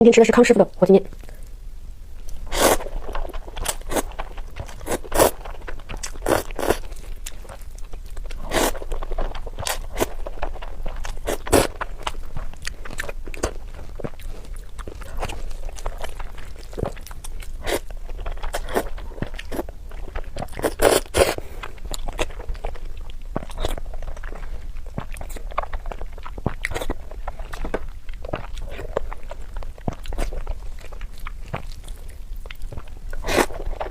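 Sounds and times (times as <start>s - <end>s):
chewing noodles: 2.2s - 33.9s.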